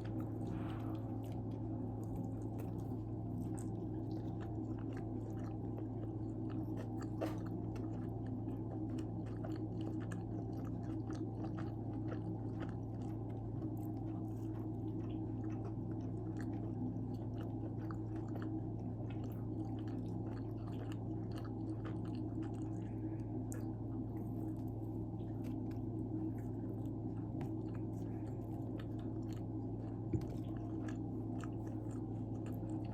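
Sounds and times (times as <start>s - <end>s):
person chewing: 0.0s - 32.9s
steady low hum: 0.0s - 32.9s.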